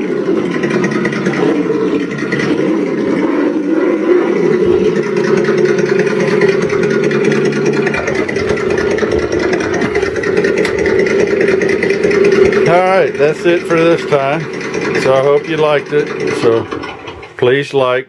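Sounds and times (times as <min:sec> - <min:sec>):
simulated engine from speaker: 0:00.0 - 0:18.0.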